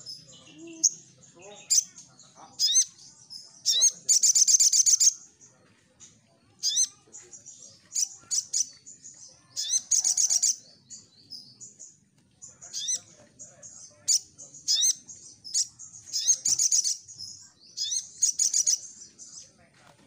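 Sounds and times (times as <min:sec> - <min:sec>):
bird chirping: 0:00.0 - 0:19.7.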